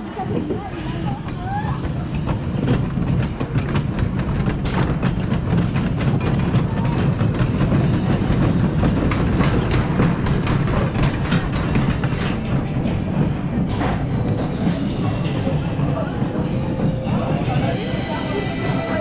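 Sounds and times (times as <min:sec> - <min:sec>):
roller coaster wheels rumbling on wood: 0:00.0 - 0:19.0
rapid clicks and clacks: 0:00.8 - 0:19.0.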